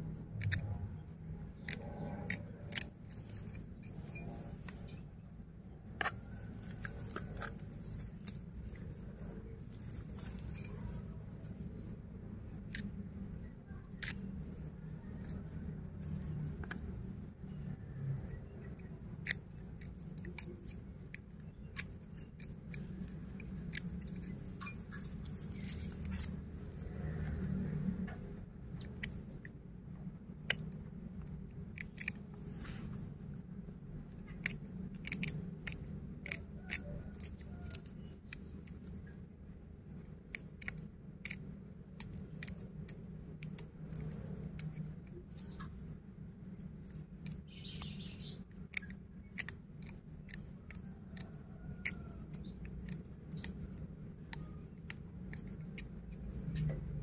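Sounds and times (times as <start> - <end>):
steady low hum: 0.0 - 57.0
knife clicking and scraping wire: 0.2 - 57.0.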